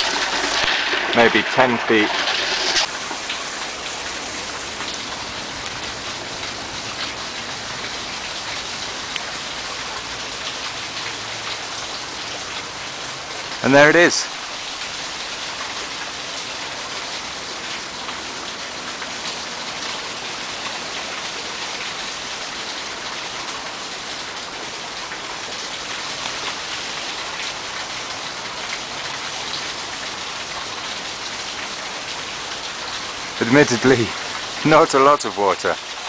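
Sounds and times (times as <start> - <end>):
water rushing and splashing: 0.0 - 36.0.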